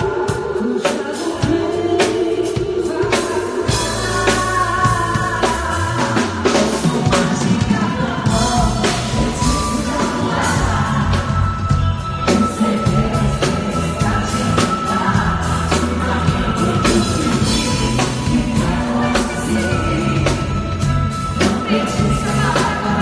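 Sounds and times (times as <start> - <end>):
band with drums and bass: 0.0 - 23.0
woman singing into microphone: 0.0 - 23.0.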